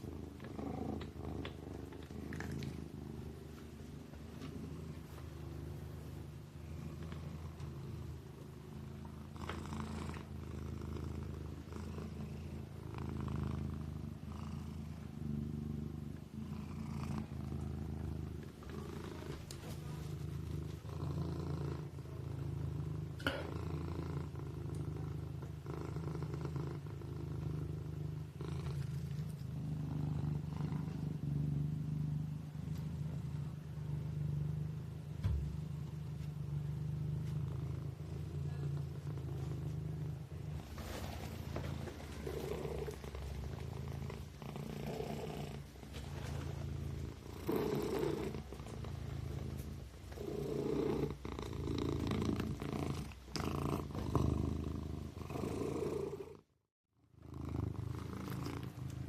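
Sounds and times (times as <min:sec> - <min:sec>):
kitten purring: 0:00.0 - 0:59.0.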